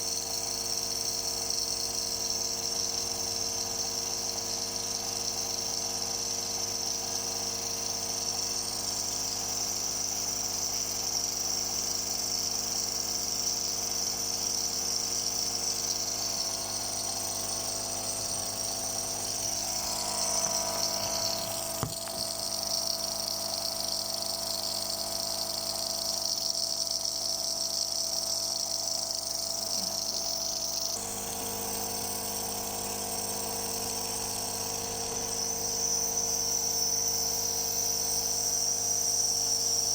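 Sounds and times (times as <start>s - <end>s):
nebulizer motor hum: 0.0s - 39.9s.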